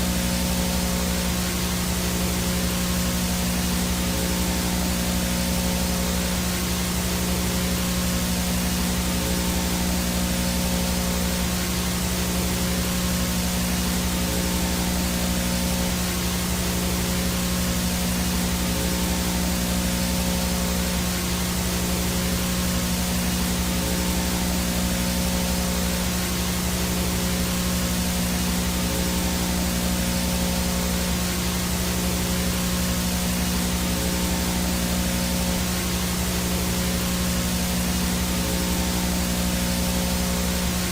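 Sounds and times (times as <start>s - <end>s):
static hiss: 0.0s - 40.9s
thin high whine: 0.0s - 40.9s.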